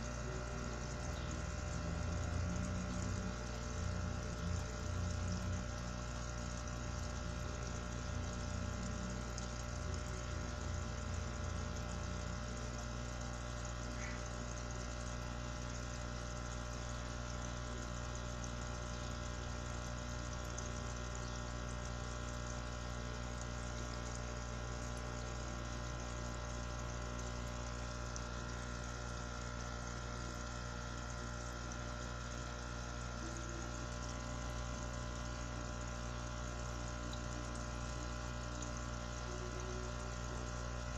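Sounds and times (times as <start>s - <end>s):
aquarium pump humming: 0.0s - 40.9s.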